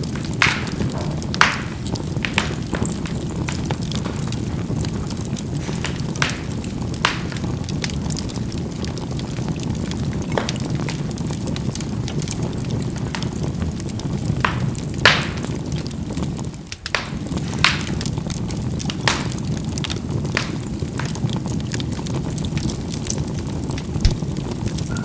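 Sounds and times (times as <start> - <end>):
charcoal crackling pops: 0.0 - 25.0
fire rumbling: 0.0 - 25.0.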